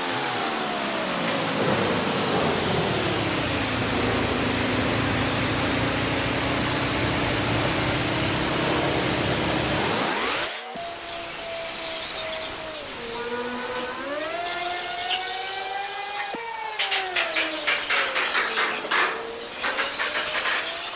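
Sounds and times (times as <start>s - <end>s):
motor whine: 0.0s - 17.7s.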